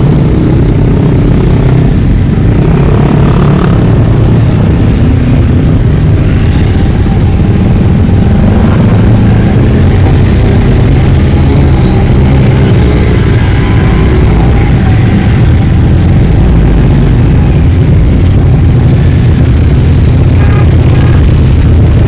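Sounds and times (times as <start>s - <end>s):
motorcycle engines droning past: 0.0s - 22.0s.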